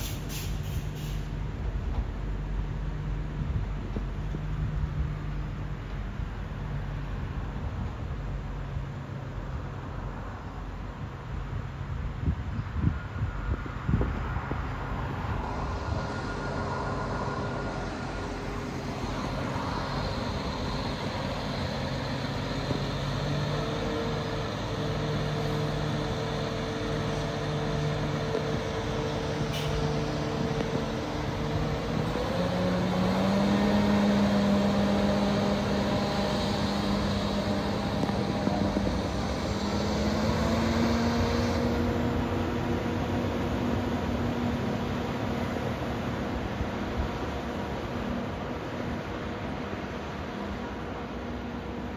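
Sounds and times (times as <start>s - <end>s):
train engine passing: 0.0s - 51.9s
train rolling noise: 0.0s - 51.9s.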